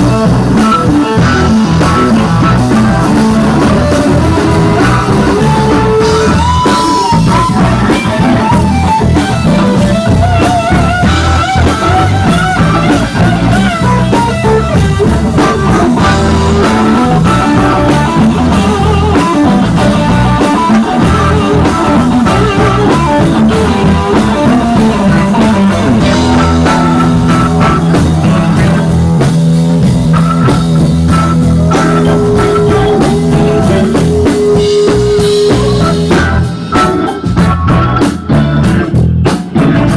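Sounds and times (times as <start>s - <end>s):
drum kit playing: 0.0s - 39.9s
electric bass: 0.0s - 39.9s
electric guitar lead line: 0.0s - 39.9s.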